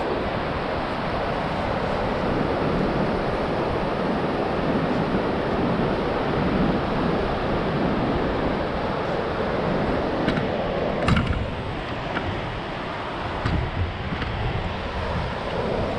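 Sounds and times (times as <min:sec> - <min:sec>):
surf breaking on beach: 0:00.0 - 0:15.9
wind buffeting microphone: 0:00.0 - 0:15.9.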